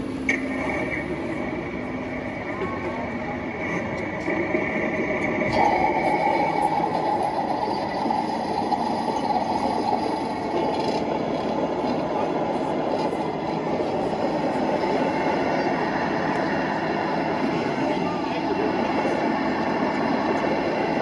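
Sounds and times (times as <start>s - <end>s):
model tank motors and tracks rumbling: 0.0s - 21.0s.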